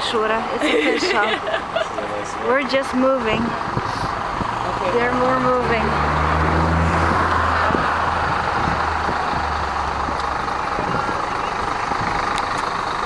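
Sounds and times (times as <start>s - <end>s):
bus engine running: 0.0s - 13.0s
low engine hum: 0.0s - 13.0s
road noise: 0.0s - 13.0s.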